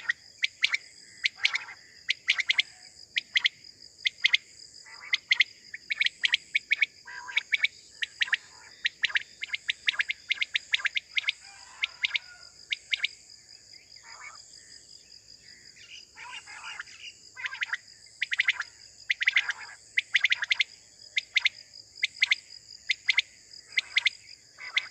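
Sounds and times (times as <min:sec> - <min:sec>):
quails calling: 0:00.0 - 0:03.5, 0:04.1 - 0:13.1, 0:16.2 - 0:24.9.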